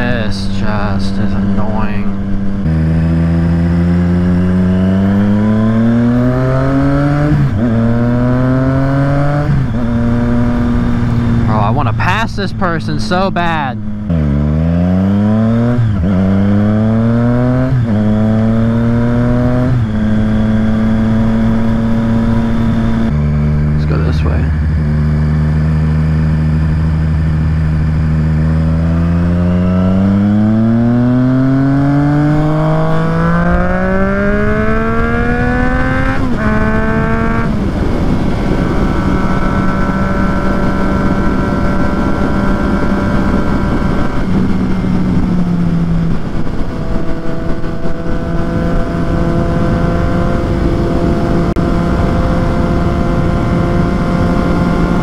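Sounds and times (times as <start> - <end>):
wind rushing over microphone: 0.0 - 12.8, 13.4 - 55.0
motorcycle engine revving: 0.0 - 55.0.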